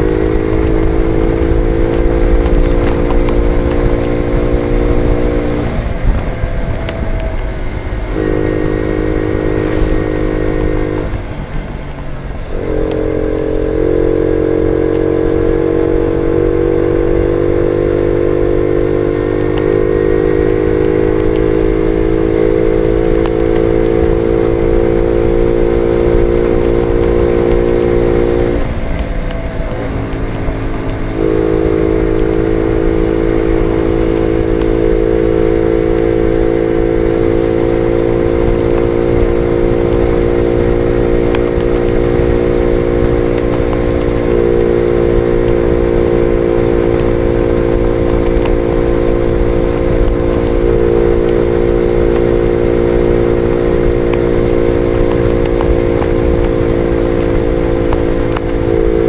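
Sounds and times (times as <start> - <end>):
two-stroke moped engine running: 0.0 - 59.0
wind rush on microphone: 0.0 - 59.0.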